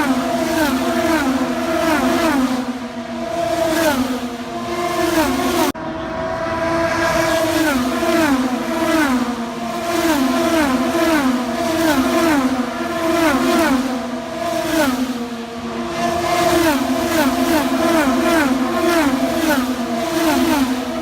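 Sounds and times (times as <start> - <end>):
race car engines accelerating: 0.0 - 21.0.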